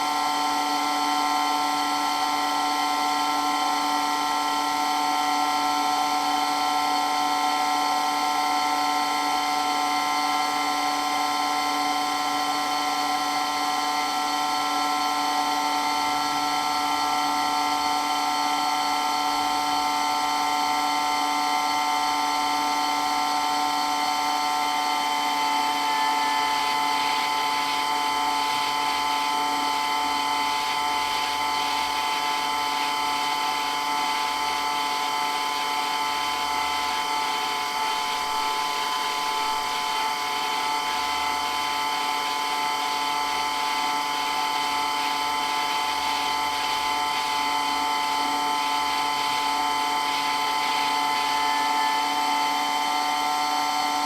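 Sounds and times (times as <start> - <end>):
water pump whining: 0.0 - 54.0.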